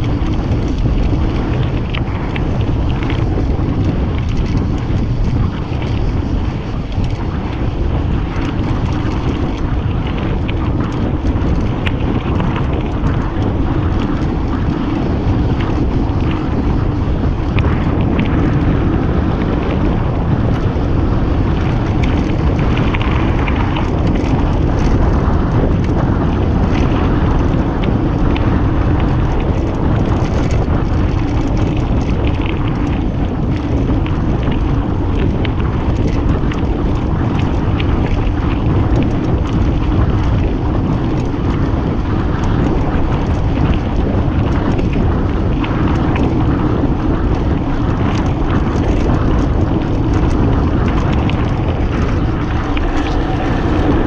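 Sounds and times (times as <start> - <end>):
bike tyres rolling on gravel: 0.0 - 54.0
small clicks and rattles: 0.0 - 54.0
wind buffeting microphone: 0.0 - 54.0.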